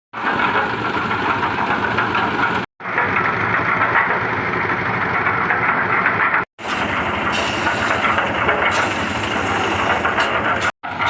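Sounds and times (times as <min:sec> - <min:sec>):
concrete mixer engine running: 0:00.1 - 0:11.0.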